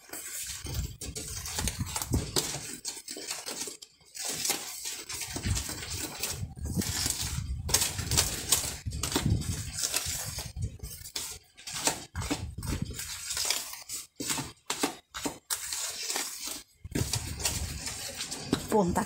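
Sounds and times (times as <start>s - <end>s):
fingers mixing flour in plastic bowl: 0.0s - 19.0s.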